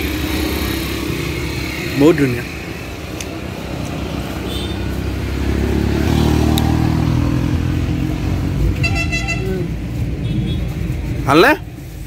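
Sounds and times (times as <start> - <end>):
motor vehicle passing: 0.0 - 11.3.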